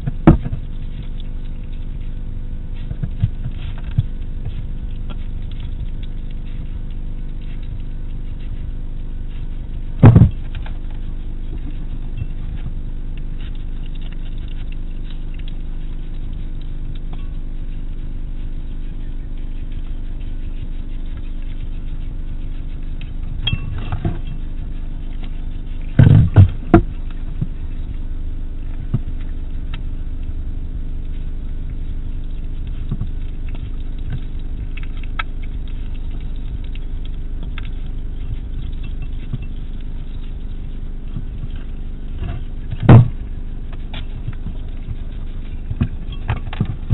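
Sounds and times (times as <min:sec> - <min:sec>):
hedgehog chewing clicks: 0:00.0 - 0:46.9
steady low hum: 0:00.0 - 0:46.9.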